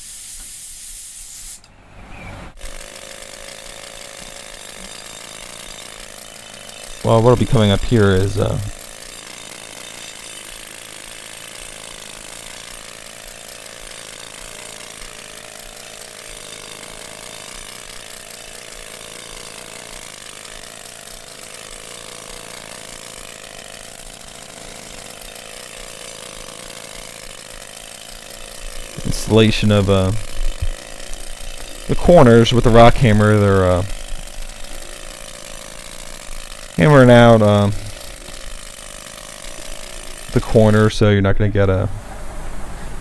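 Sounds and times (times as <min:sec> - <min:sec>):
pneumatic hammer chipping asphalt: 0:02.5 - 0:41.0.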